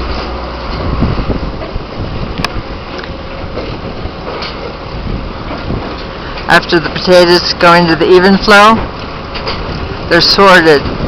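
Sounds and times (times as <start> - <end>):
machinery rumble: 0.0 - 11.0.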